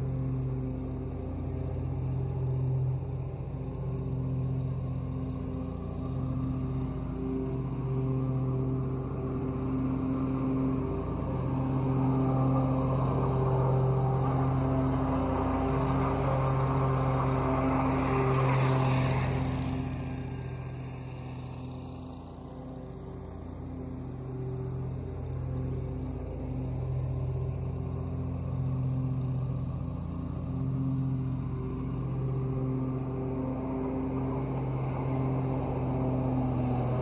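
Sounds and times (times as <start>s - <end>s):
mower blades chopping leaves: 0.0s - 37.0s
mower engine running: 0.0s - 37.0s.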